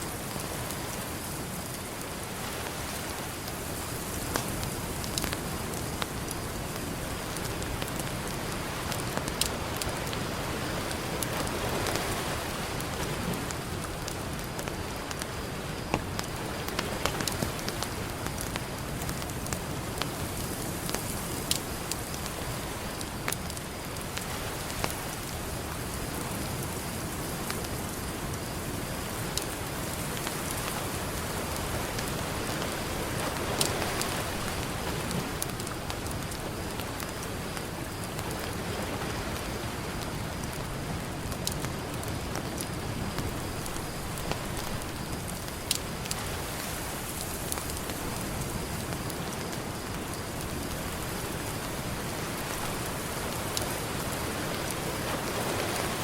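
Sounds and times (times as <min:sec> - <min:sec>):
campfire crackling and popping: 0:00.1 - 0:56.0.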